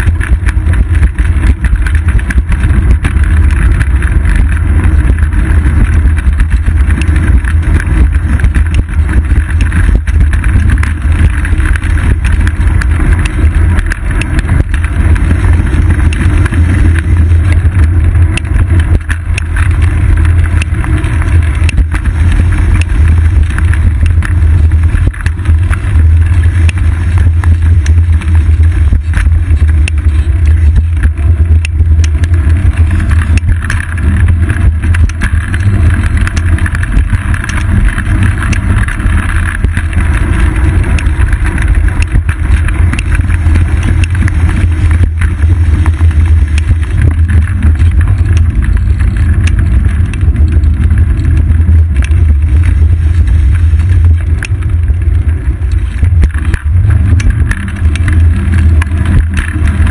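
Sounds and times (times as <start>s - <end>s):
road traffic: 0.0s - 59.9s
wind buffeting rumble: 0.0s - 59.9s.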